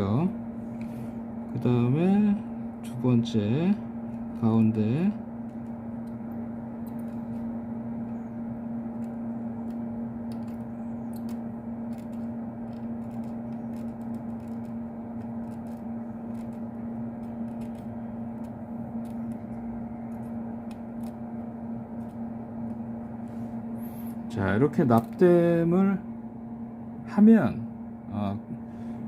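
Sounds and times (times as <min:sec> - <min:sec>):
fume extractor fan humming: 0:00.0 - 0:29.0.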